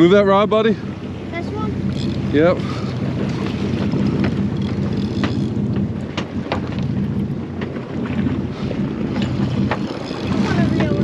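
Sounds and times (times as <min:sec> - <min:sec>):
boat engines droning: 0:00.0 - 0:11.0
wind buffeting microphone: 0:00.5 - 0:11.0.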